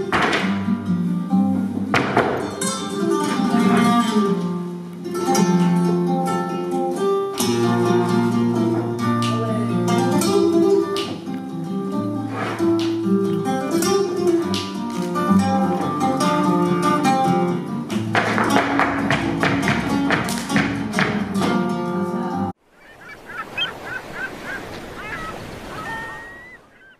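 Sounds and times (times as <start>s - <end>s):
flamenco guitar music: 0.0s - 22.5s.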